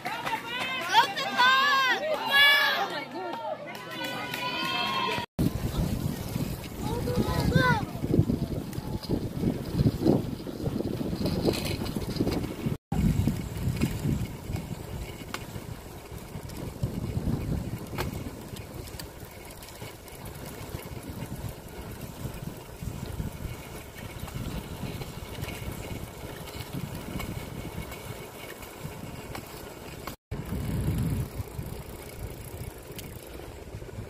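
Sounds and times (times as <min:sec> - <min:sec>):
wind rumble on microphone: 0:05.4 - 0:29.6, 0:30.3 - 0:34.0.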